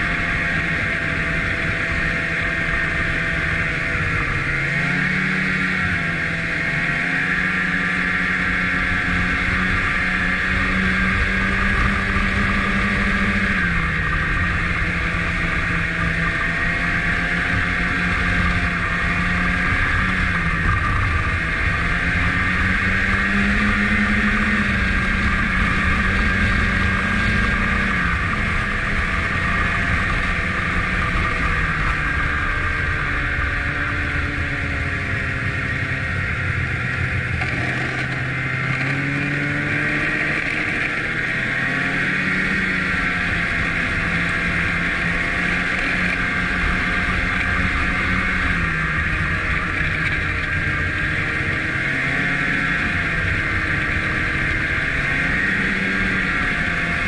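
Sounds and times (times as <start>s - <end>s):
snowmobile engine revving: 0.0s - 57.0s
steady high whine: 0.0s - 57.0s.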